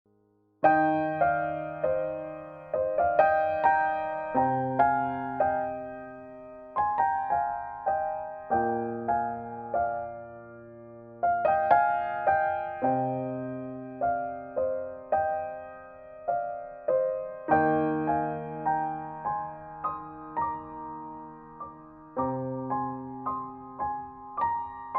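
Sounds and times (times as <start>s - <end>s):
slow solo piano music: 0.4s - 24.9s.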